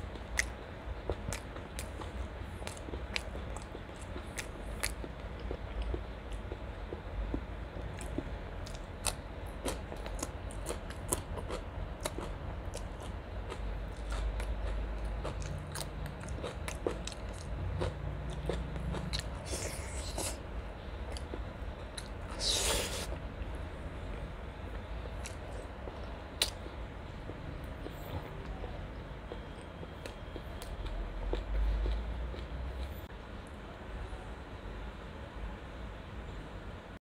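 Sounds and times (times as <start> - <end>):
person chewing: 0.0 - 23.6, 24.7 - 28.0, 29.3 - 32.9.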